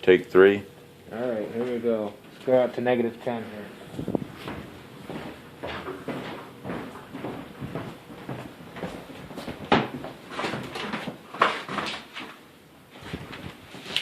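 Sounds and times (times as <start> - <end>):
footsteps walking: 1.4 - 11.8, 12.9 - 14.0.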